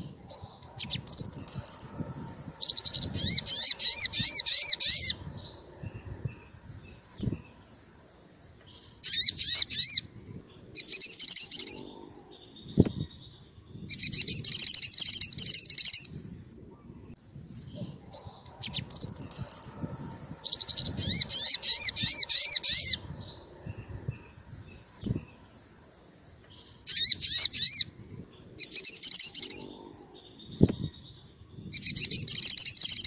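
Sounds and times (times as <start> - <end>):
bird singing scratchy trills: 0.0 - 33.0.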